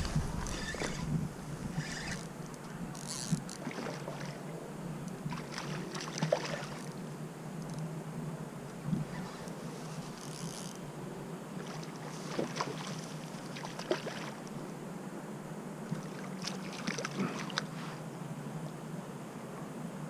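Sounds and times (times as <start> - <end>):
stream water running: 0.0 - 17.9.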